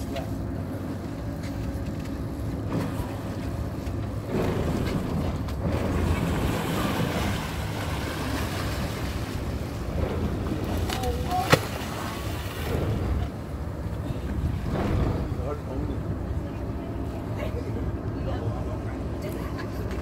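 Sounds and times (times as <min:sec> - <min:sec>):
boat engine running: 0:00.0 - 0:20.0
water rushing past hull: 0:02.3 - 0:19.8.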